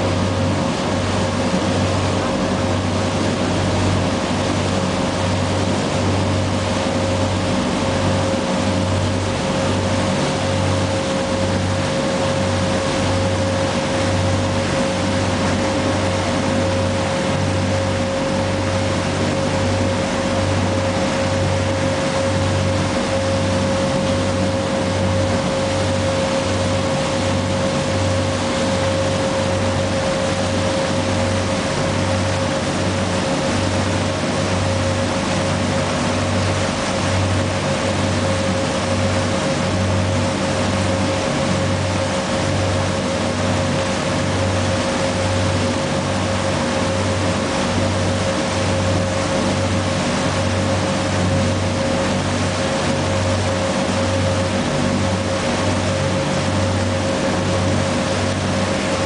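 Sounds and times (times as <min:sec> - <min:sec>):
boat engine throbbing: 0:00.0 - 0:59.0
propeller wake rushing: 0:00.0 - 0:59.0.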